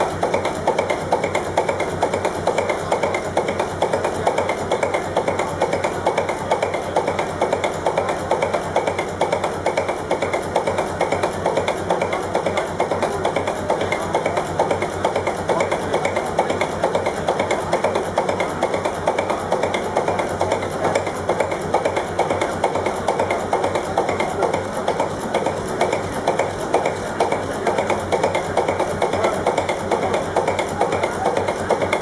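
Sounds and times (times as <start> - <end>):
diesel engine clattering: 0.0 - 32.0.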